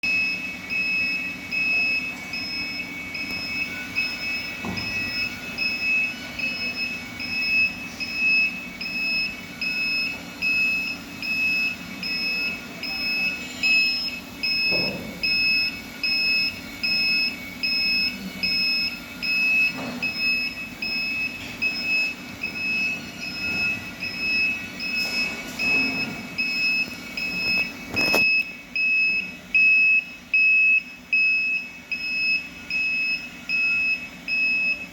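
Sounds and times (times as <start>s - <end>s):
electronic beeper beeping: 0.0s - 34.9s.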